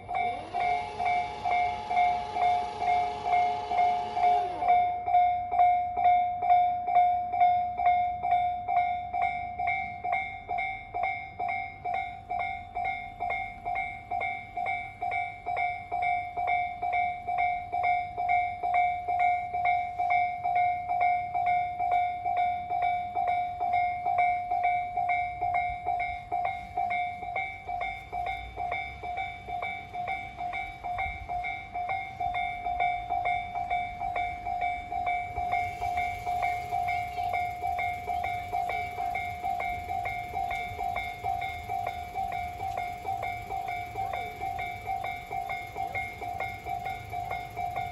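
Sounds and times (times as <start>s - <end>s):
level crossing warning bell dinging: 0.0s - 47.9s.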